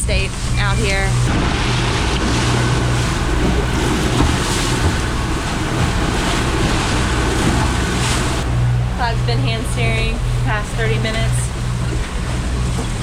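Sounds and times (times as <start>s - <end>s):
steady low hum: 0.0s - 13.0s
waves rushing against hull: 0.0s - 13.0s
wind buffeting microphone: 0.0s - 13.0s.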